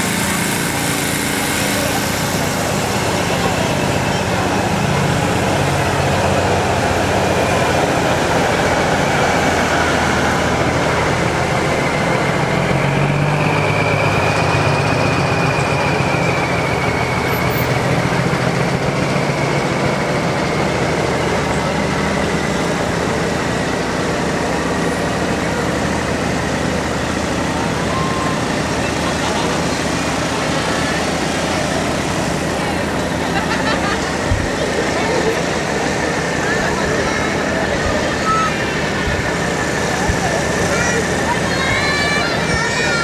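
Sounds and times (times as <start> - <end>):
diesel truck engine running: 0.0 - 43.0.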